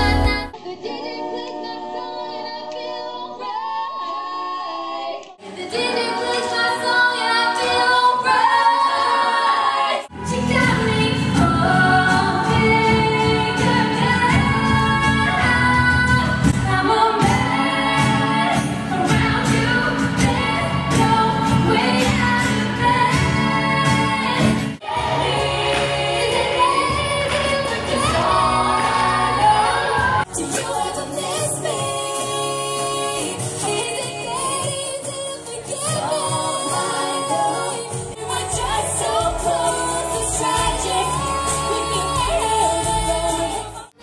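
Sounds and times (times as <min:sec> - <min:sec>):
women singing in harmony: 0:00.0 - 0:44.0.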